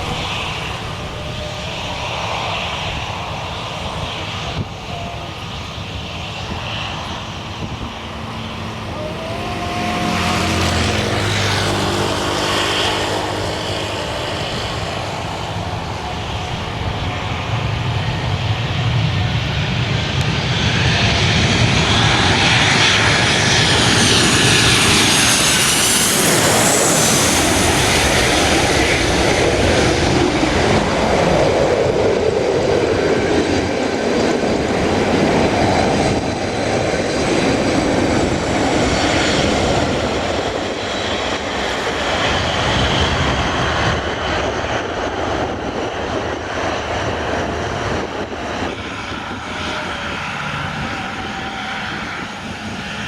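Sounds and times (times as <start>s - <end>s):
airliner engines passing: 0.0s - 53.0s
high engine whine: 0.0s - 53.0s.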